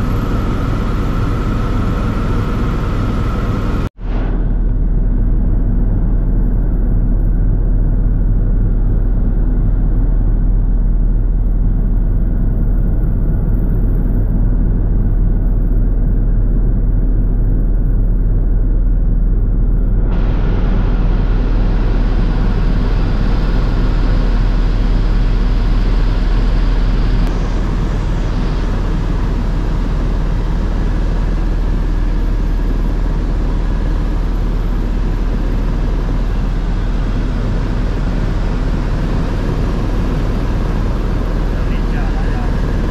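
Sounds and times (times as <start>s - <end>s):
helicopter engine and rotor drone: 0.0s - 42.9s.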